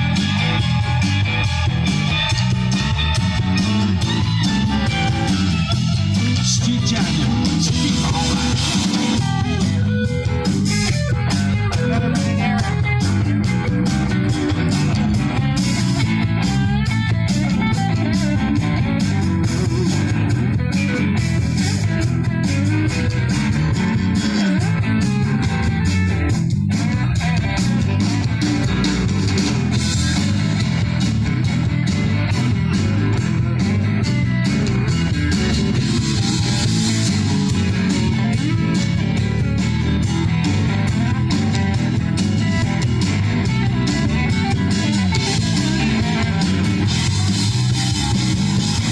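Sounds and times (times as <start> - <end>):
electric guitar: 0.0 - 48.9
live rock band: 0.0 - 48.9.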